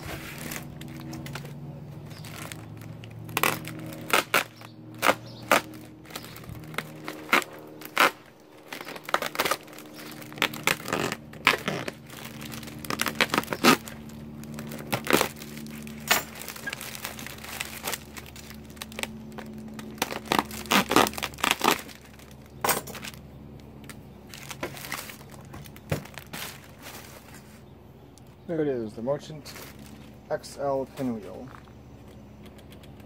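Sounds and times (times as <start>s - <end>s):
bubble wrap crinkling: 0.0s - 27.6s, 29.4s - 30.2s
low steady hum: 0.0s - 33.0s.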